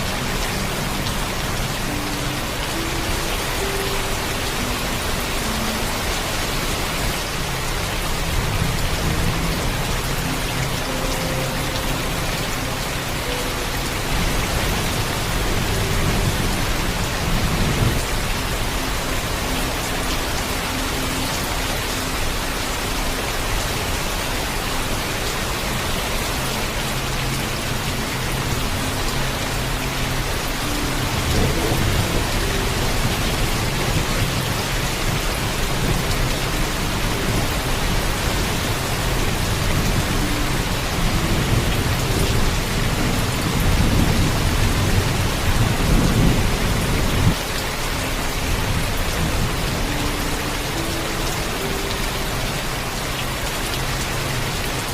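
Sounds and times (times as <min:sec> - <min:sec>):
heavy rainfall: 0:00.0 - 0:54.9.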